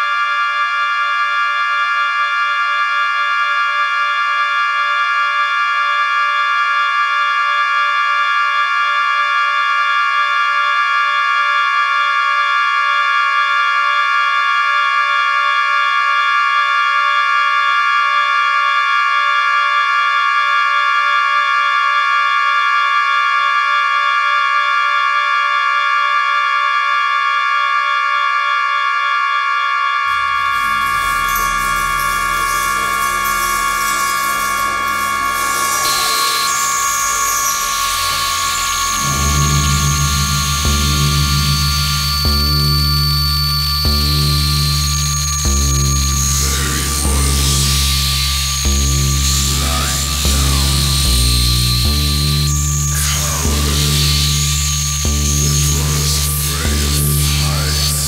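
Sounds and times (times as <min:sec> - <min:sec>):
high-pitched electronic drone: 0:00.0 - 0:58.0.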